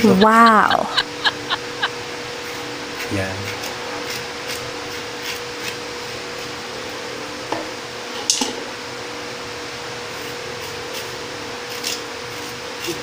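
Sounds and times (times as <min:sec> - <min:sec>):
steady hum: 0:00.0 - 0:11.6.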